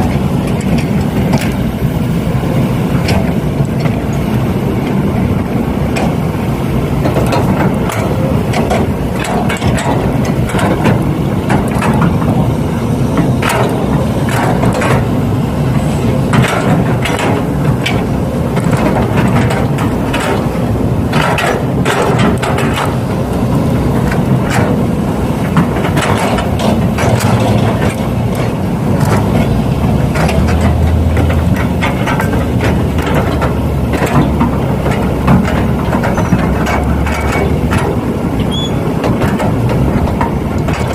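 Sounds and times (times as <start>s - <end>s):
engine-like drone: 0.0s - 40.9s.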